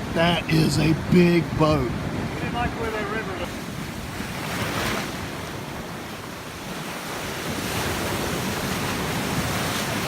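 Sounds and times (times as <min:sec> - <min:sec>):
ocean surf breaking: 0:00.0 - 0:10.0.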